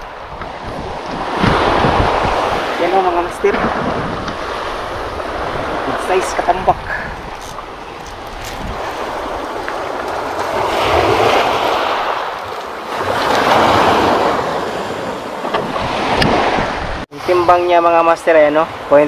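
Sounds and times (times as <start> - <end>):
waves on a pebble beach: 0.0 - 19.0.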